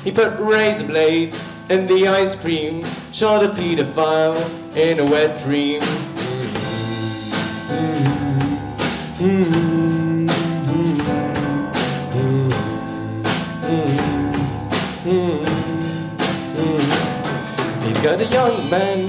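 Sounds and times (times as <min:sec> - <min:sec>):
guitar: 0:00.0 - 0:19.0
rock band music: 0:00.0 - 0:19.0
steady drum beat: 0:00.0 - 0:19.0.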